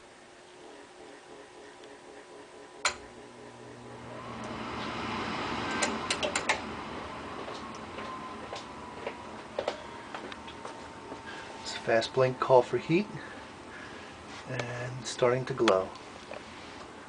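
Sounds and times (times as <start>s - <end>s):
furnace exhaust fan whine: 0.0s - 17.0s.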